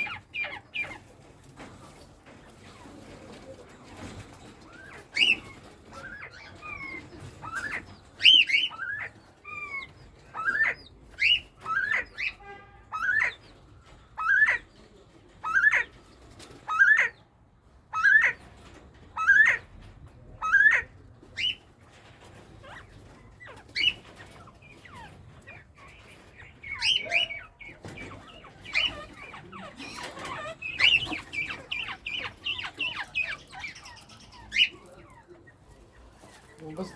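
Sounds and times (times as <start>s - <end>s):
soft chirps and squawks: 0.0s - 17.3s, 17.9s - 36.9s.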